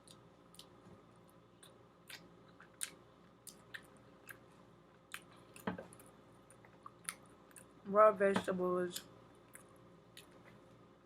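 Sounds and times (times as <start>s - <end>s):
faint chewing: 0.0s - 7.8s, 8.9s - 10.8s.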